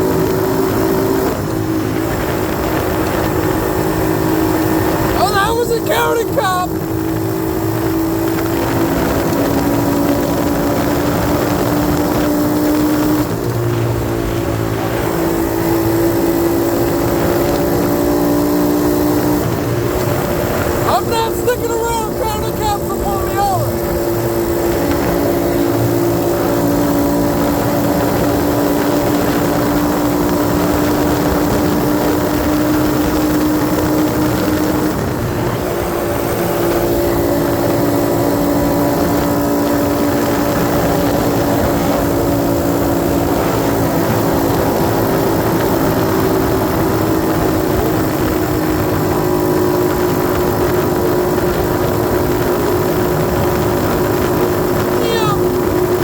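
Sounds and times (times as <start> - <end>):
dirt bike engine running: 0.0 - 56.0
wind rush: 0.0 - 56.0.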